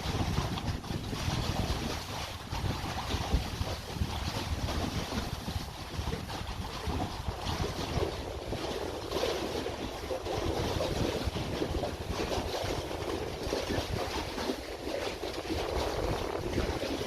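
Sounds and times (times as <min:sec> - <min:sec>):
waves rushing: 0:00.0 - 0:17.0
wind buffeting microphone: 0:00.0 - 0:17.0.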